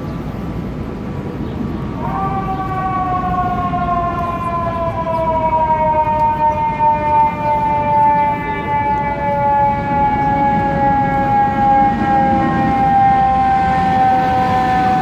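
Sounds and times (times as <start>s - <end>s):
city street noise: 0.0s - 15.0s
fire truck siren wailing: 1.8s - 15.0s.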